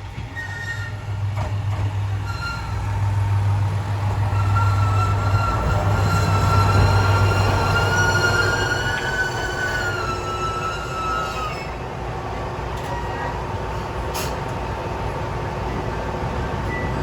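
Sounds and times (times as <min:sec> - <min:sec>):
diesel railcar rumbling: 0:00.0 - 0:17.0
train wheels squealing on rails: 0:00.1 - 0:11.9, 0:12.8 - 0:14.5, 0:16.6 - 0:17.0.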